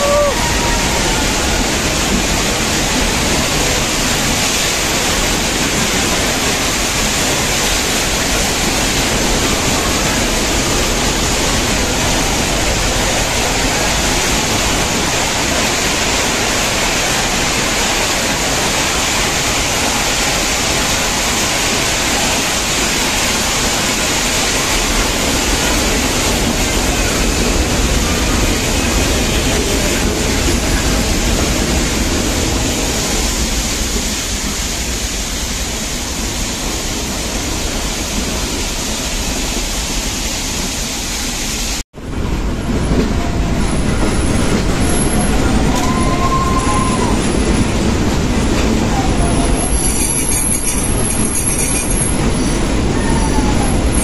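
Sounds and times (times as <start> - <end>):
train rushing in motion: 0.0 - 54.0.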